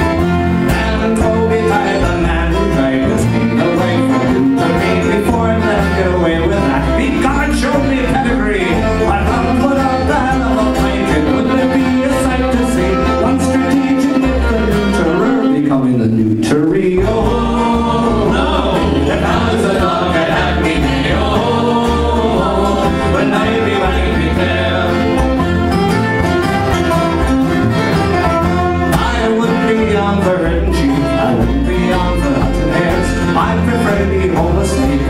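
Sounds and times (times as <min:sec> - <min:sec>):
fiddle: 0:00.0 - 0:15.8, 0:17.0 - 0:35.0
acoustic guitar: 0:00.0 - 0:35.0
banjo: 0:00.0 - 0:35.0
upright bass: 0:00.0 - 0:35.0.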